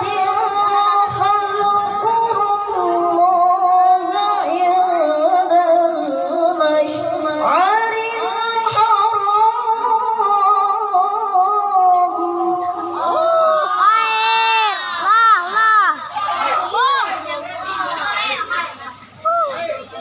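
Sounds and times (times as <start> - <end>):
boy reciting melodically into microphone: 0.0 - 20.0.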